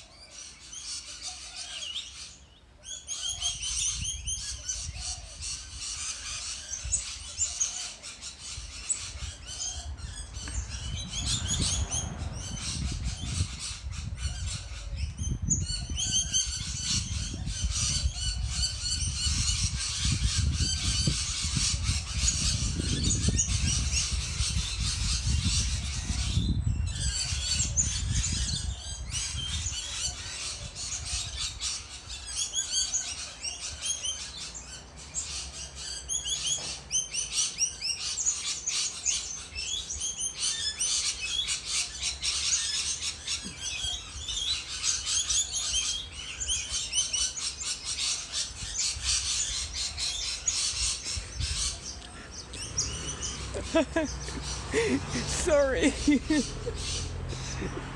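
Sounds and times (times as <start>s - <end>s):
birds chirping and squawking: 0.0s - 57.9s.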